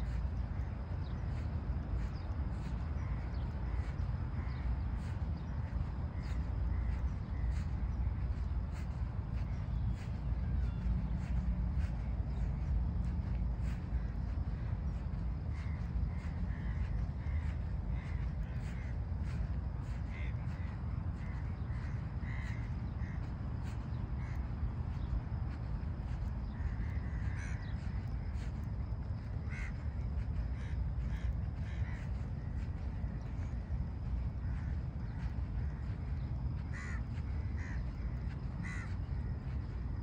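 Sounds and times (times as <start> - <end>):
birds calling: 0.0 - 40.0.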